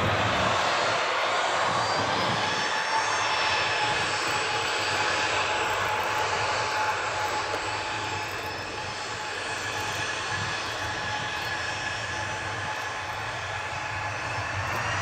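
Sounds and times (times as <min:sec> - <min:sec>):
jet engines at taxi thrust: 0:00.0 - 0:15.0.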